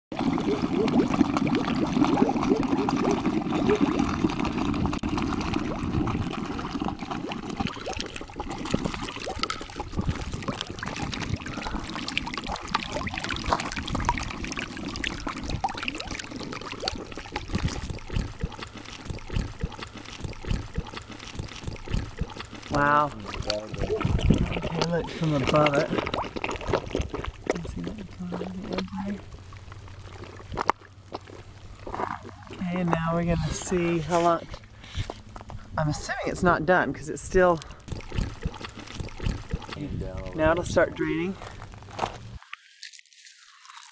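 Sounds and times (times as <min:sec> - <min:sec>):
water trickling in a pipe: 0:00.1 - 0:41.7, 0:42.4 - 0:43.9.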